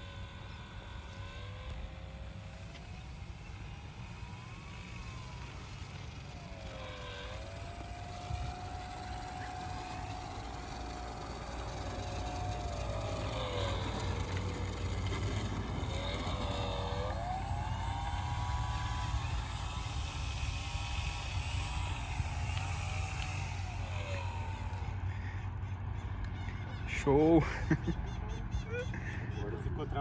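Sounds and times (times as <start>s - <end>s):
model airplane motor whining: 0.0s - 27.3s.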